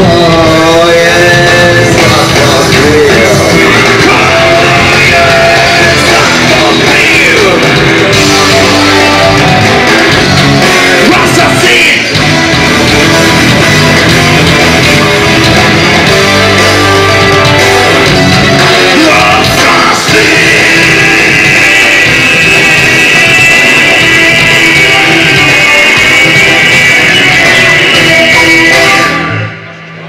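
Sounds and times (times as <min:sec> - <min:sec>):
drum kit and cymbals: 0:00.0 - 0:29.4
rock band playing live: 0:00.0 - 0:30.0.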